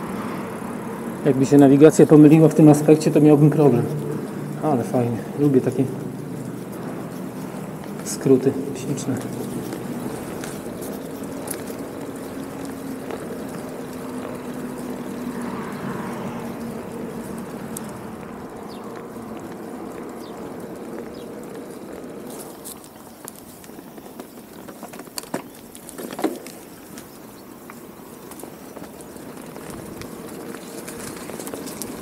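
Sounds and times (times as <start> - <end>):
bicycle clicks and clatter: 0.0 - 32.0
bicycle tyre and wind noise: 0.0 - 32.0.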